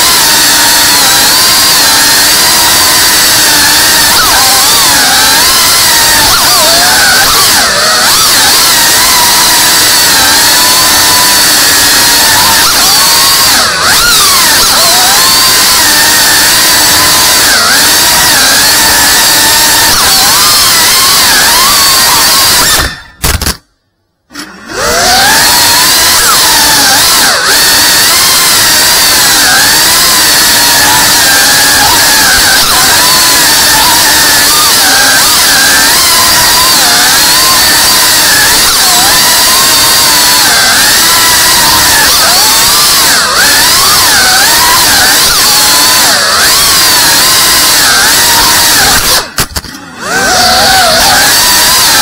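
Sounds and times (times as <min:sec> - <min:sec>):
drone motors whining: 0:00.0 - 0:52.0.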